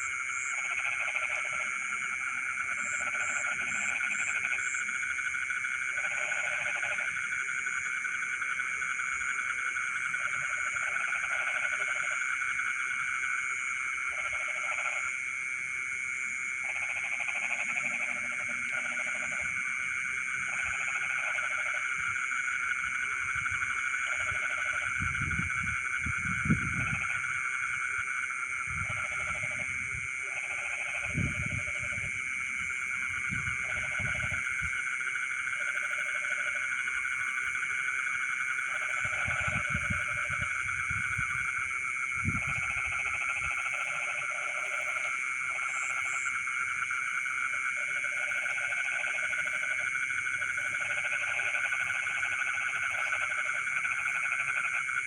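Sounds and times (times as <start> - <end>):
frogs croaking: 0.0 - 55.0
frogs trilling: 0.0 - 55.0.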